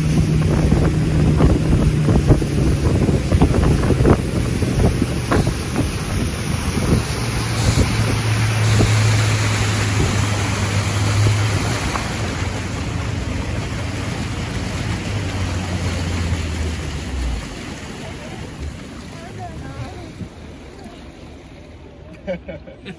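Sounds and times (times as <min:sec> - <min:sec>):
boat motor running: 0:00.0 - 0:22.8
water noise: 0:00.0 - 0:22.9
wind: 0:00.0 - 0:22.9.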